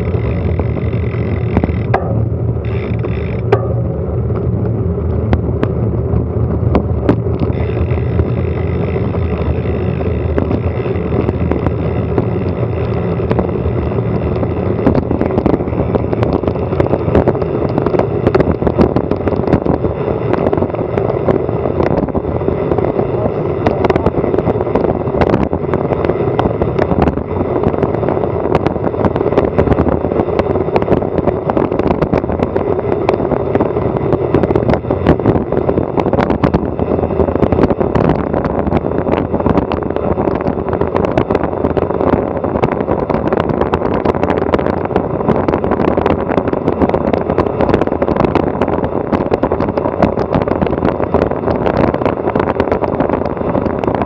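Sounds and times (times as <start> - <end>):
wind rushing across microphone: 0.0 - 54.0.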